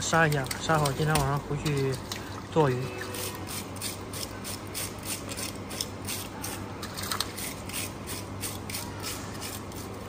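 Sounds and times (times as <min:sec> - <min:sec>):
fish scaler scraping scales: 0:00.0 - 0:10.0.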